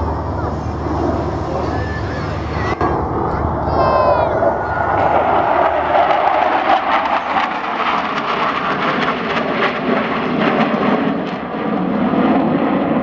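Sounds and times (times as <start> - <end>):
jet roar overhead: 0.0 - 13.0.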